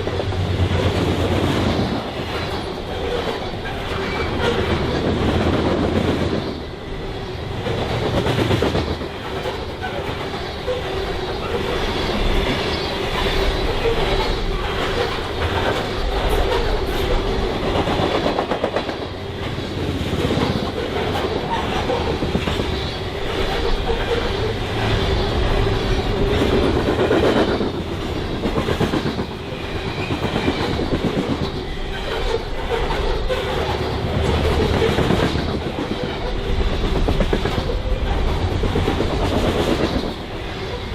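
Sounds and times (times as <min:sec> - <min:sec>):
freight train rumble: 0:00.0 - 0:40.9
train wheels clicking over rail joints: 0:07.4 - 0:40.9.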